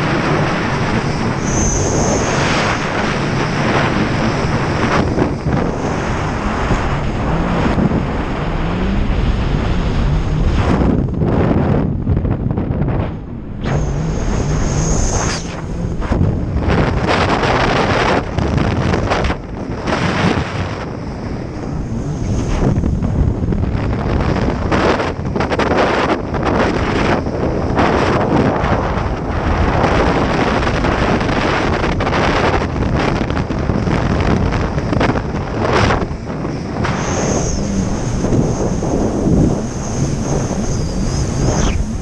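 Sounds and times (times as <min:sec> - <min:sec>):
jet ski engine: 0:00.0 - 0:42.0
wind buffeting microphone: 0:00.0 - 0:42.0.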